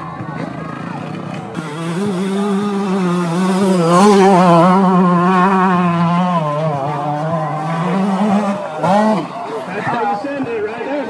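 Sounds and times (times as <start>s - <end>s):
dirt bike engine revving high: 0.0s - 9.9s.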